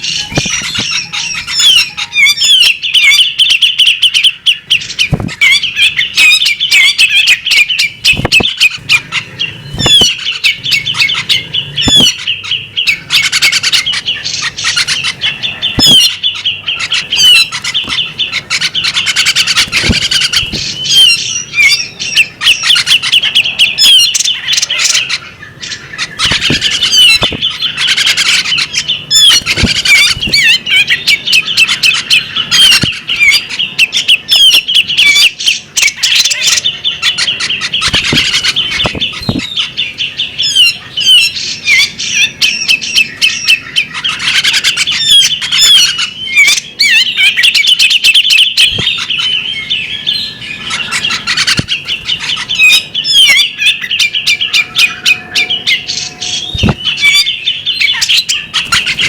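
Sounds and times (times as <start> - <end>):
bird chirping and warbling: 0.0 - 59.0.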